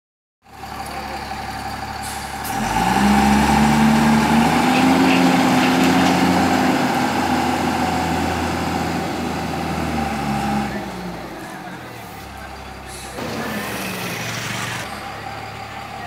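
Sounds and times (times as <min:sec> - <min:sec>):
diesel truck engine revving: 0:00.5 - 0:16.0.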